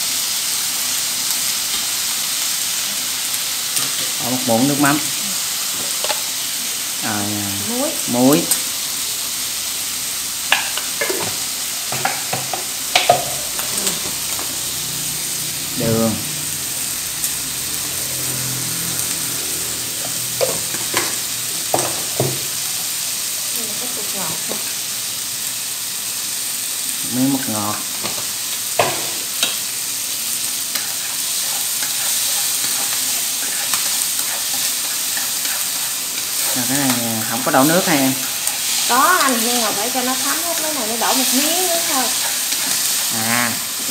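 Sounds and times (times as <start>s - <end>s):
snails sizzling in a frying pan: 0.0s - 43.9s.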